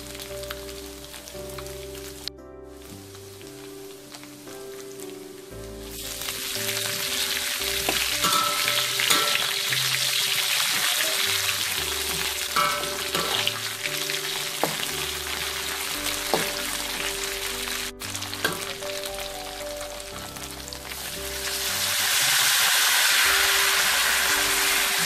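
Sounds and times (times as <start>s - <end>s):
food frying in hot oil: 0.0s - 25.0s.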